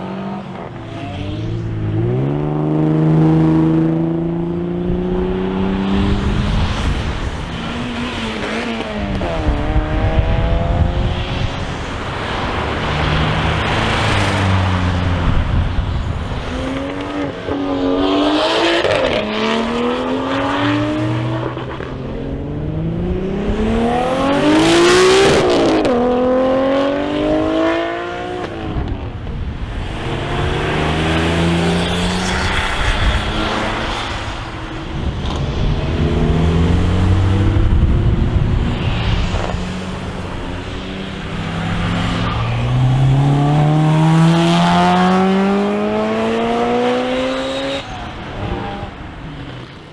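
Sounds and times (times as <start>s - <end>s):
car engine accelerating hard: 0.0s - 49.9s.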